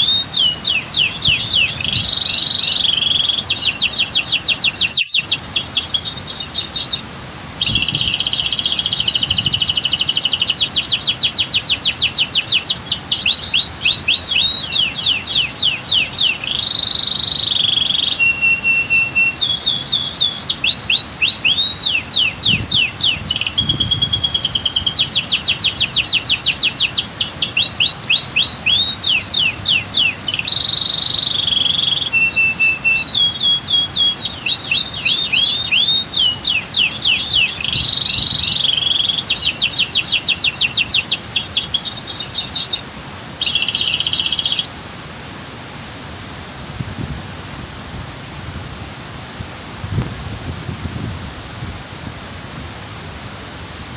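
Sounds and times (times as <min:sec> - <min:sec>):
canary singing trills: 0:00.0 - 0:44.7
waterfall rushing: 0:00.0 - 0:53.9.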